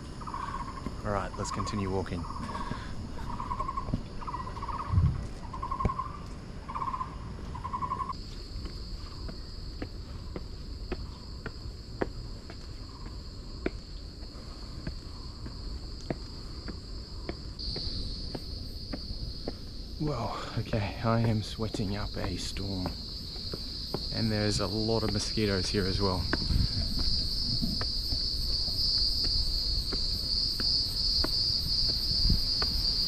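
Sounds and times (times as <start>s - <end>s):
high-pitched insect drone: 0.0s - 13.6s, 14.5s - 33.0s
footsteps on a trail: 0.0s - 33.0s
insects chirping: 0.0s - 33.0s.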